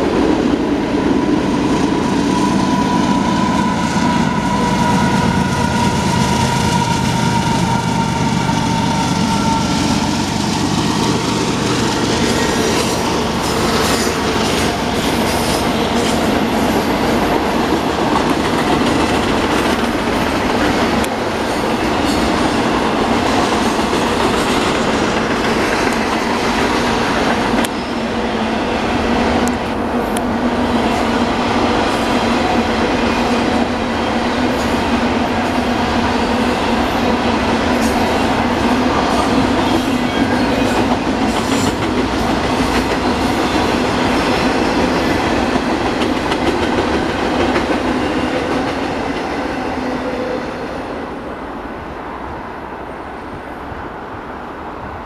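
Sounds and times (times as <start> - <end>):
diesel locomotive drone: 0.0 - 55.0
freight cars rumbling over rails: 0.0 - 55.0.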